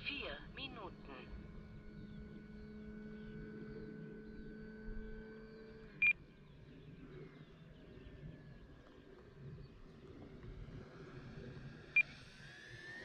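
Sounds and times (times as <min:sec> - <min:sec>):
distant model plane motor whine: 0:00.0 - 0:13.0.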